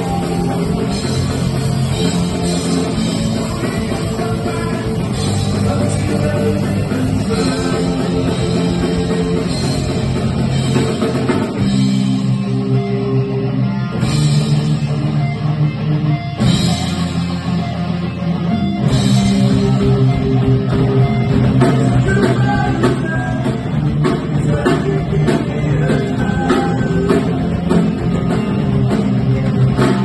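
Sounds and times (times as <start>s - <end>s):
bass guitar: 0.0s - 30.0s
distorted electric guitar: 0.0s - 30.0s
drum kit: 0.0s - 30.0s.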